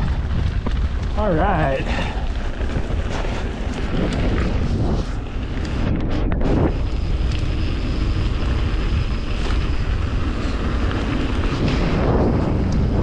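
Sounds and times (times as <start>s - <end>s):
bike rattles and knocks: 0.0s - 13.0s
wind buffeting microphone: 0.0s - 13.0s.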